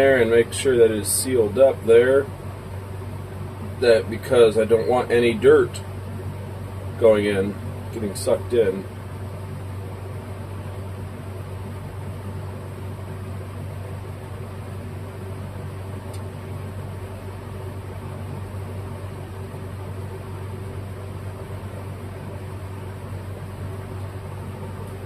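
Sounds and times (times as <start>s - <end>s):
fan machine humming: 0.0s - 25.0s.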